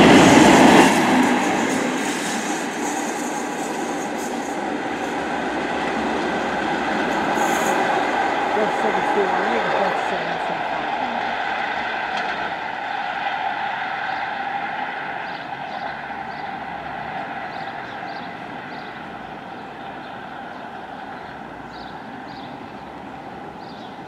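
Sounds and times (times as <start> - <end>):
diesel locomotive engine whine: 0.0 - 24.0.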